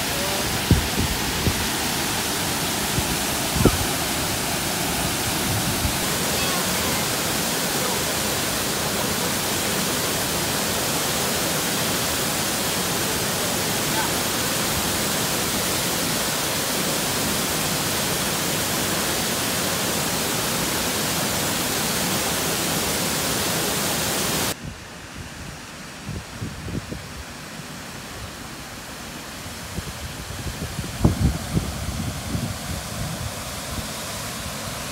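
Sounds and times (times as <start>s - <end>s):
waterfall rushing: 0.0s - 24.6s, 27.3s - 34.9s.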